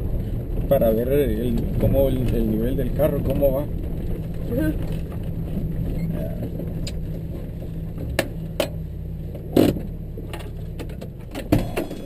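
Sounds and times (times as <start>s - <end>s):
off-road vehicle engine running: 0.0s - 12.0s
rattles and clunks from cab: 0.0s - 12.0s.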